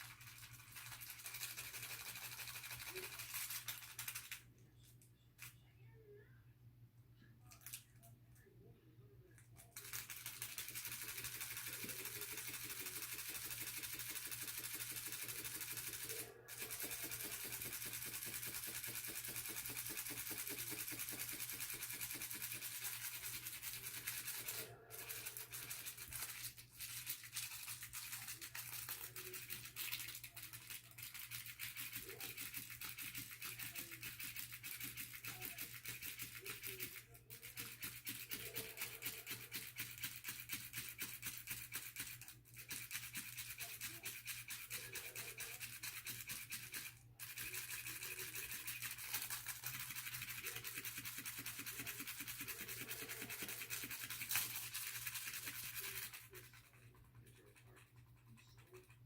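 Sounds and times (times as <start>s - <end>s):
toy motor buzzing: 0.0s - 4.4s, 9.8s - 59.0s.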